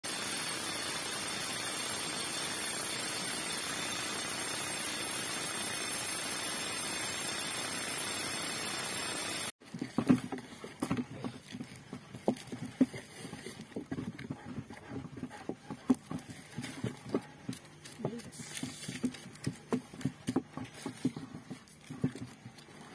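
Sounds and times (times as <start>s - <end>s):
jackhammer drilling rock: 0.1s - 22.6s.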